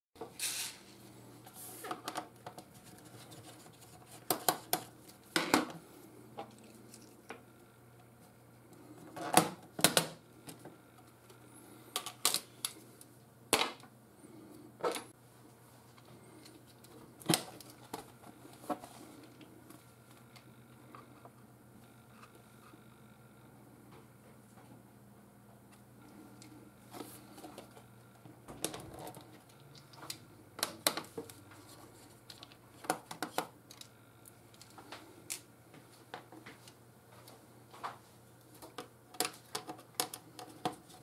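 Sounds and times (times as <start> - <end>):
faint low hum: 0.9 - 41.0.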